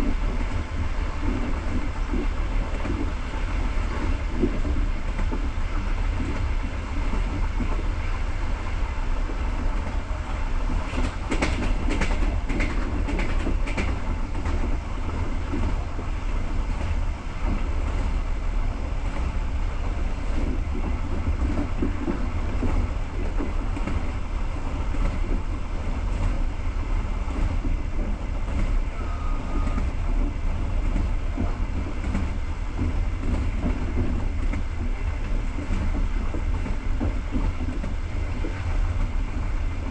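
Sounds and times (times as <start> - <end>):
sharp clicks of train wheels: 0.0 - 39.9
train wheels rumbling on rails: 0.0 - 39.9.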